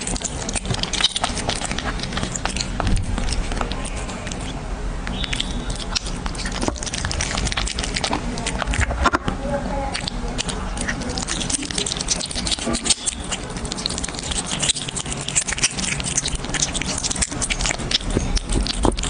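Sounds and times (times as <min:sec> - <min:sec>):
cat chewing crunchy food: 0:00.0 - 0:19.0.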